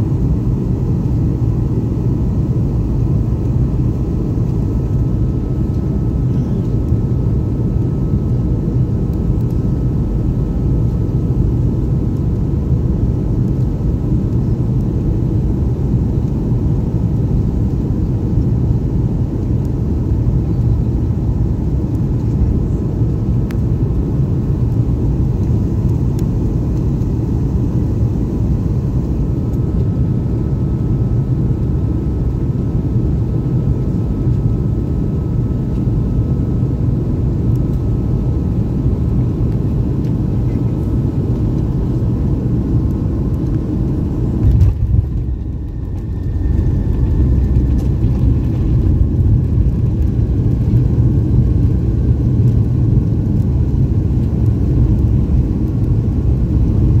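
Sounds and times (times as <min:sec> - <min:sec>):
engines and rushing air rumble: 0:00.0 - 0:57.0
faint steady whine: 0:00.0 - 0:57.0.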